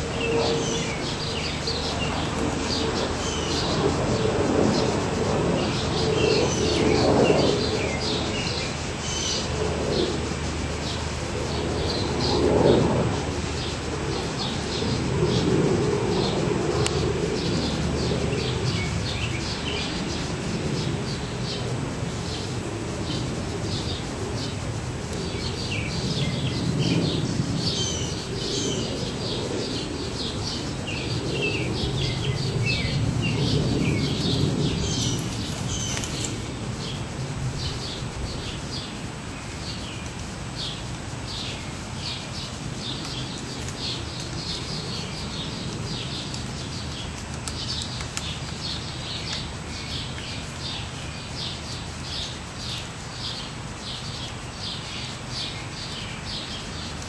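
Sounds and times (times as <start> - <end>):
small songbirds chirping: 0.0 - 57.0
steady low rumble: 0.0 - 57.0.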